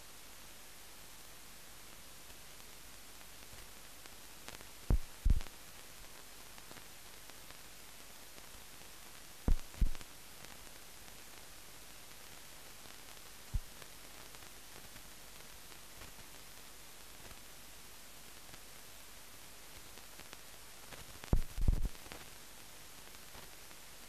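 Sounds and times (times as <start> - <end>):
film soundtrack hiss: 0.0 - 24.0.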